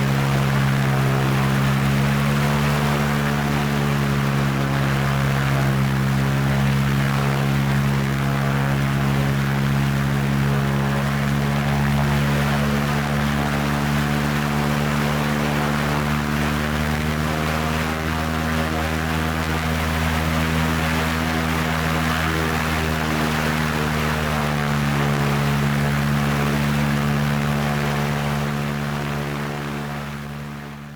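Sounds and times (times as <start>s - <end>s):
propeller airplane engine droning: 0.0s - 30.9s.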